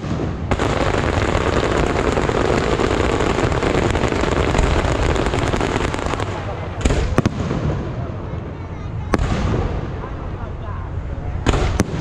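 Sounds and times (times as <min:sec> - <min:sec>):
fireworks fountains hissing: 0:00.0 - 0:10.3
fireworks crackling: 0:00.0 - 0:10.6.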